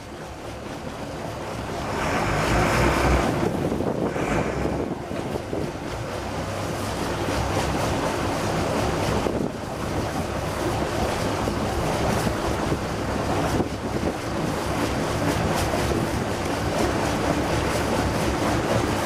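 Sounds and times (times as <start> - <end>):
exhaust water splashing: 0.0 - 19.0
marine diesel engines idling: 0.1 - 19.0.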